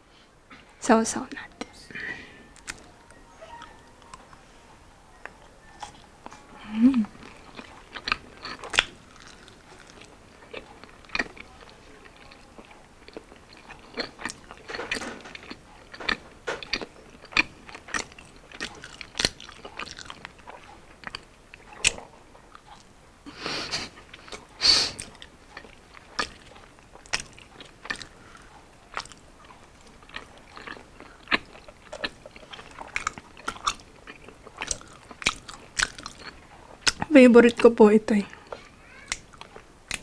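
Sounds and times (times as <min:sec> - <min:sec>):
person chewing and crunching food: 0:01.4 - 0:04.5, 0:05.2 - 0:40.0.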